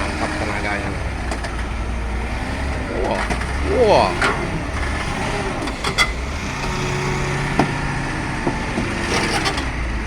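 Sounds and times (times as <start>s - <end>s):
truck diesel engine pulling hard: 0.0s - 10.0s
truck knocking: 0.0s - 10.0s.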